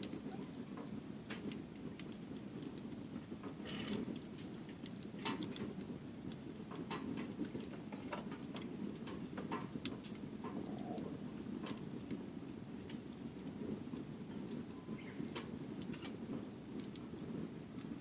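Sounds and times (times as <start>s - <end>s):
low rush of flame: 0.0s - 18.0s
wood fire crackling and popping: 0.0s - 18.0s.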